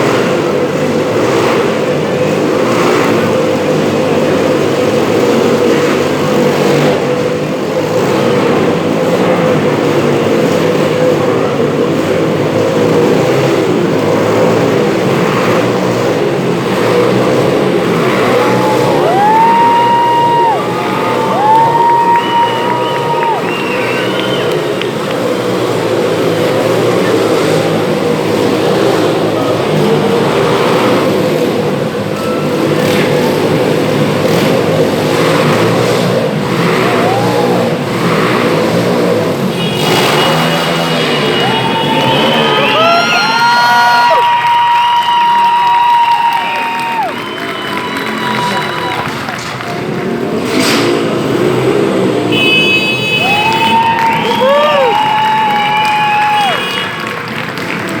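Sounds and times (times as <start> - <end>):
motorcycle engines running: 0.0 - 58.0.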